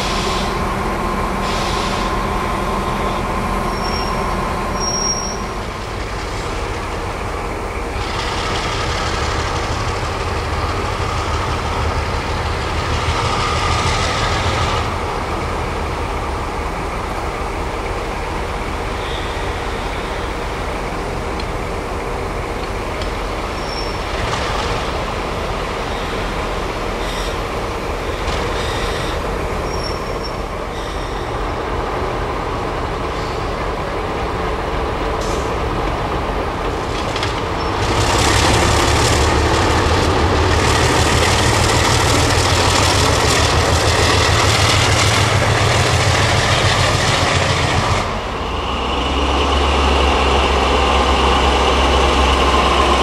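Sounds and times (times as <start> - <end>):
diesel engine deep rumble: 0.0 - 53.0
diesel locomotive train passing: 0.0 - 53.0
wheel and rail noise: 0.0 - 53.0.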